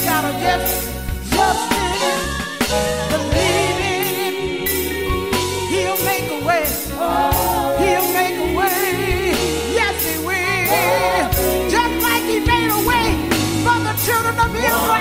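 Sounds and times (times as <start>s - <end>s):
bass and drums beat: 0.0s - 15.0s.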